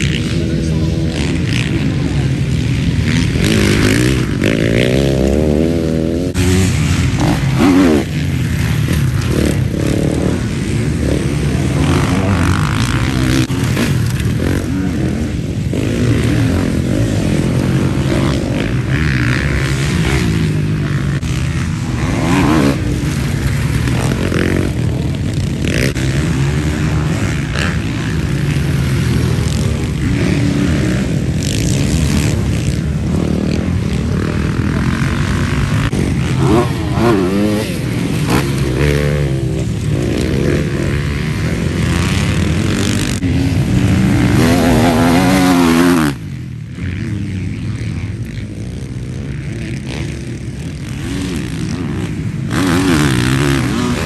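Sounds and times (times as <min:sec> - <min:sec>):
motocross bikes revving: 0:00.0 - 0:54.0.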